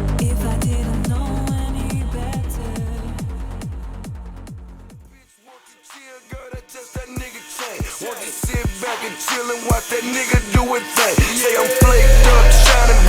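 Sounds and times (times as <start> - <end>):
hip hop beat with melody: 0.0 - 13.0.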